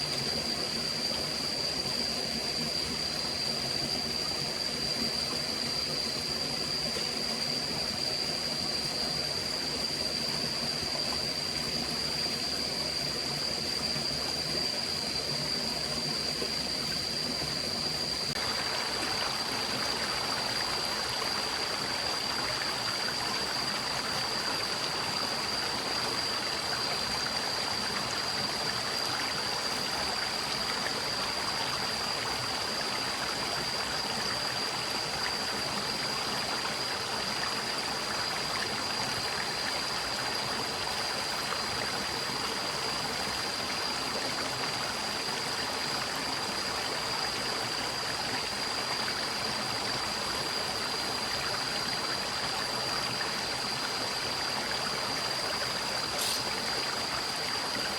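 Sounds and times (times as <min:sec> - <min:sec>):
faint high-pitched whine: 0:00.0 - 0:57.9
stream babbling: 0:07.4 - 0:57.9.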